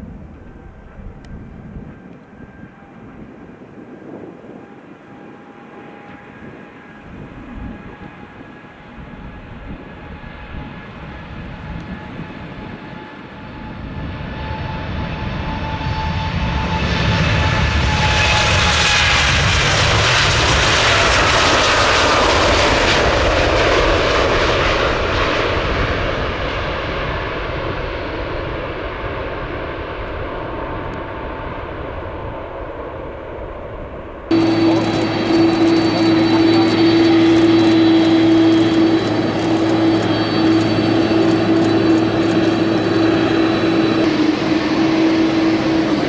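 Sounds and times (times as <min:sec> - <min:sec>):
jet airliner passing: 0:00.0 - 0:46.0
jet engine whine: 0:00.0 - 0:46.0.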